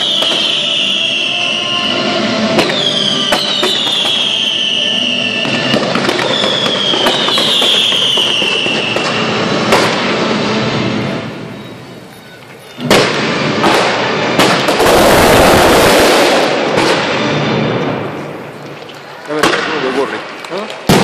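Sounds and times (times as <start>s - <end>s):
firework cracks: 0.0s - 1.4s, 2.4s - 11.1s, 12.4s - 21.0s
whistling fireworks: 0.0s - 21.0s.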